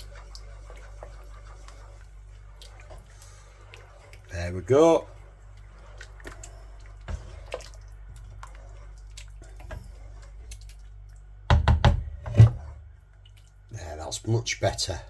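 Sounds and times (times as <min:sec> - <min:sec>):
curry simmering in a pan: 0:00.0 - 0:14.0.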